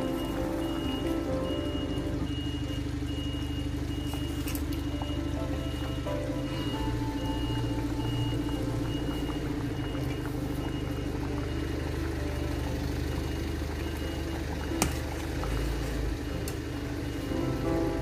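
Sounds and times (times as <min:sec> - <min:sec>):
curry simmering and bubbling: 0:00.0 - 0:18.0.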